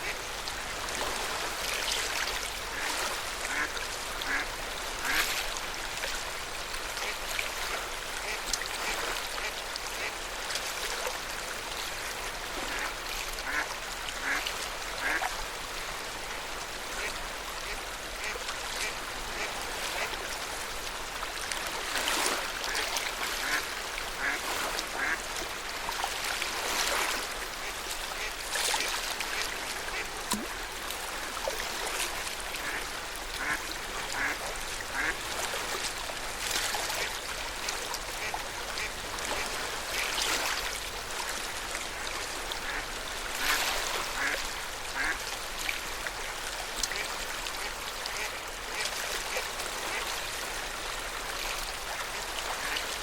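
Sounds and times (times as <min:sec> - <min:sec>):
lake water lapping against shore: 0:00.0 - 0:53.0
small waves breaking: 0:00.0 - 0:53.0.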